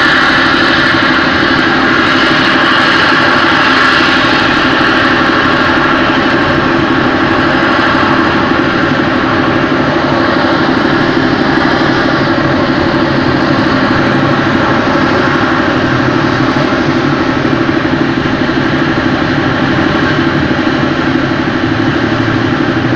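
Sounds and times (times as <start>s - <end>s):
rocket motor roaring: 0.0s - 22.9s.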